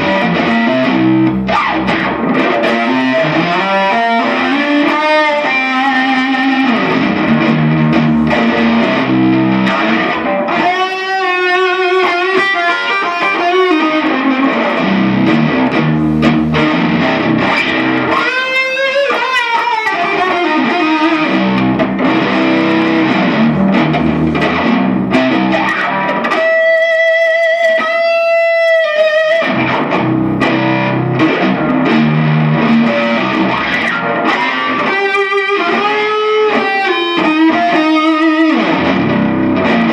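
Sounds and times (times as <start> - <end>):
electric guitar music: 0.0 - 39.9.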